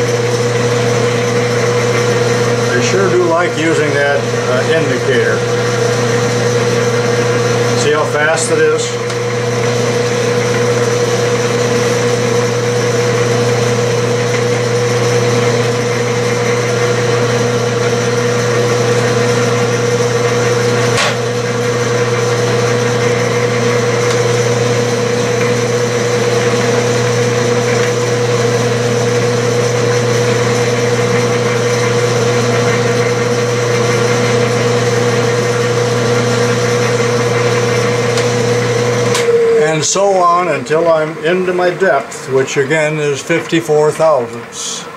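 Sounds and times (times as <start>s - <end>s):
metal lathe running: 0.0s - 44.9s.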